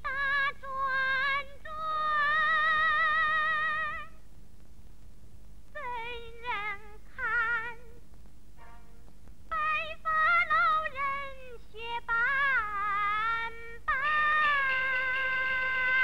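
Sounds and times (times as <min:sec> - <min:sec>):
woman singing opera style: 0:00.0 - 0:04.2, 0:05.8 - 0:08.0, 0:09.5 - 0:16.0.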